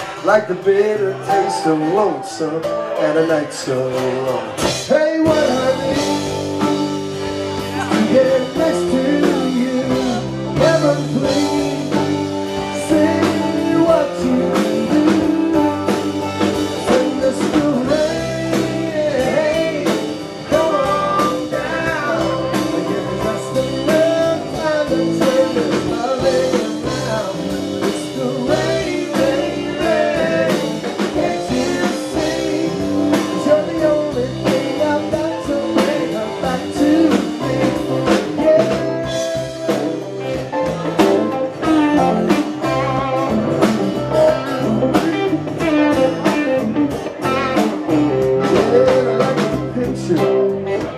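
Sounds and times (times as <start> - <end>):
live band playing: 0.0 - 50.9
person singing: 0.0 - 50.9.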